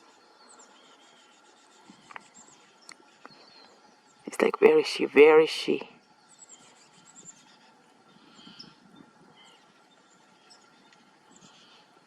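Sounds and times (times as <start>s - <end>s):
faint outdoor ambience: 0.0s - 12.0s.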